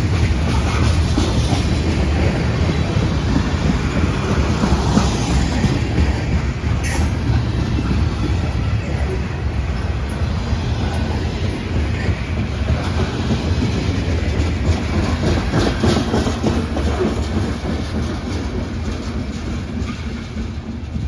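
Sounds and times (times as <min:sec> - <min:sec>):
freight train rumbling past: 0:00.0 - 0:21.0
train wheels clacking on rails: 0:00.0 - 0:21.0.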